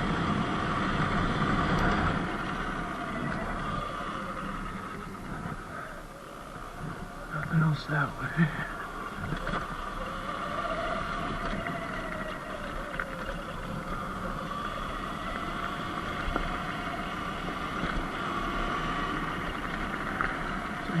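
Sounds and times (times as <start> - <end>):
electric motor whine: 0.0 - 21.0
wind: 0.0 - 21.0.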